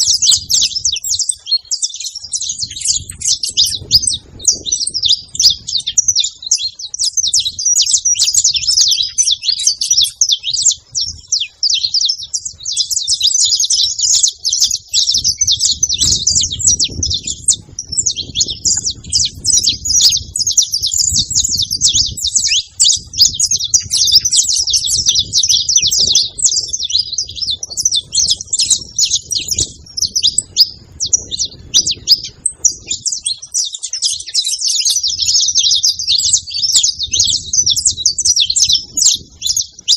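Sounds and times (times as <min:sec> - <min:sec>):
flock of finches chirping: 0:00.0 - 0:39.9.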